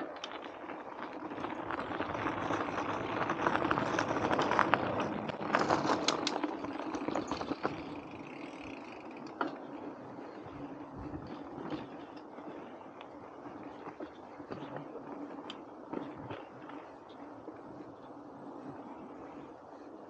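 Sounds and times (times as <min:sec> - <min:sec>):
bike clicks and rattles: 0:00.0 - 0:20.0
tyres crunching over gravel: 0:00.1 - 0:16.9.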